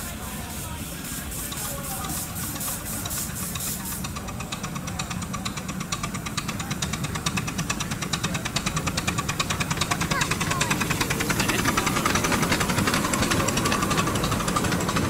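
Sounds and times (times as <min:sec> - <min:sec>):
steam locomotive exhaust beating: 0:00.0 - 0:15.0
wheels ticking over track: 0:01.5 - 0:15.0.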